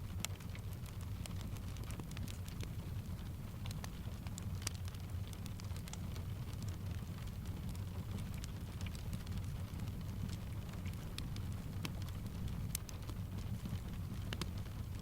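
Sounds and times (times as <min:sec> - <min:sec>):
low steady rumble: 0:00.0 - 0:15.0
steady rain: 0:00.0 - 0:15.0
wood fire crackling: 0:00.0 - 0:15.0.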